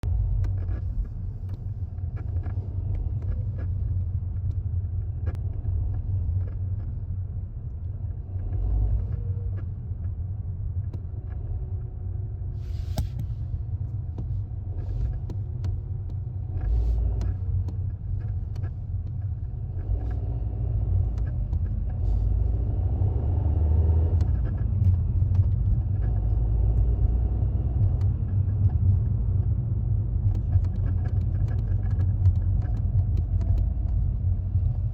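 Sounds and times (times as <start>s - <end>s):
car engine low rumble: 0.0s - 34.9s.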